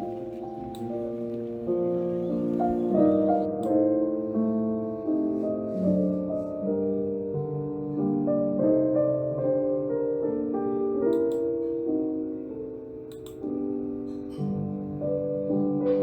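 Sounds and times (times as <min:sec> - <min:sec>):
calm keyboard music: 0:00.0 - 0:16.0.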